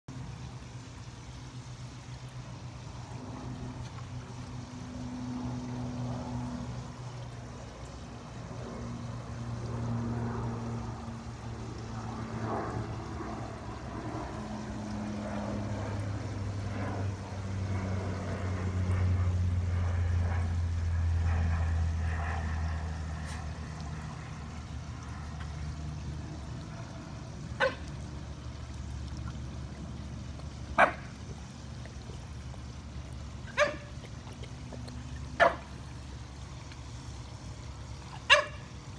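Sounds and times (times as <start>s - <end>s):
faint trickling water: 0.1s - 38.9s
low motor drone: 0.1s - 38.9s.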